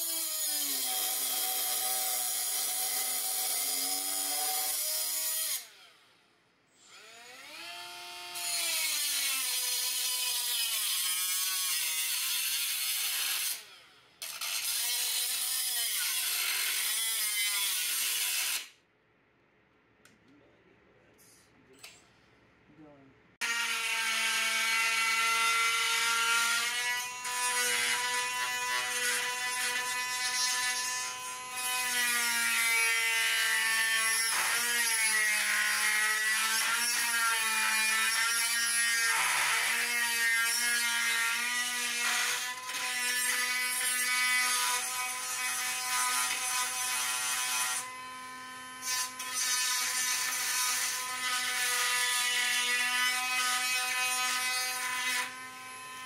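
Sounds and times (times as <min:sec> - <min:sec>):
rotary tool grinding steel: 0:00.0 - 0:05.8, 0:06.8 - 0:18.7, 0:23.4 - 0:56.0.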